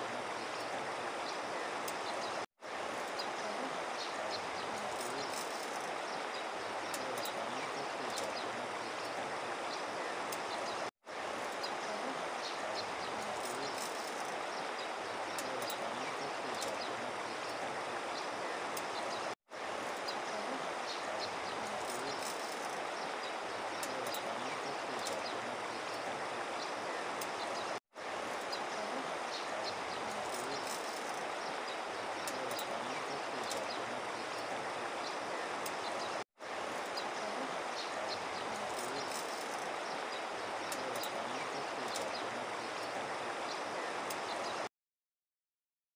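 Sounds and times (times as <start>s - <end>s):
river rushing over gravel: 0.0s - 44.6s.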